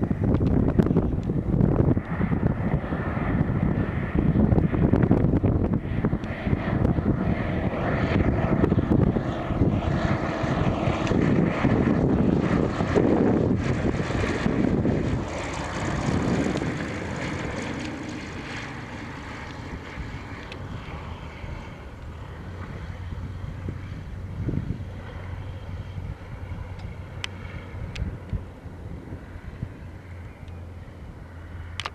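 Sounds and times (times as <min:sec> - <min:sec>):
propeller plane engine: 0:00.0 - 0:31.9.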